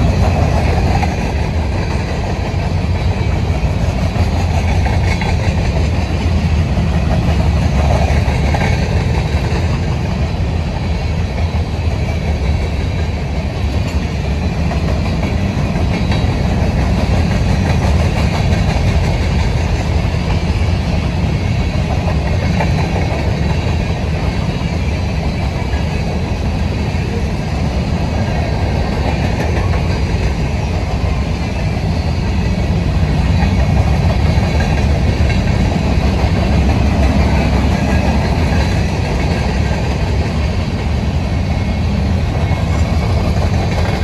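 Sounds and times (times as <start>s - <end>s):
freight train wheels rumbling on rails: 0.0s - 44.0s.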